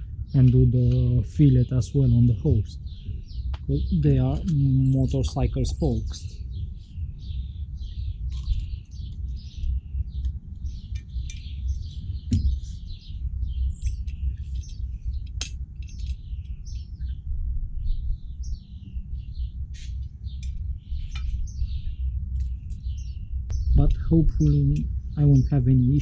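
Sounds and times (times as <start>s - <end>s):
low rumble: 0.0s - 26.0s
small birds chirping: 0.0s - 26.0s.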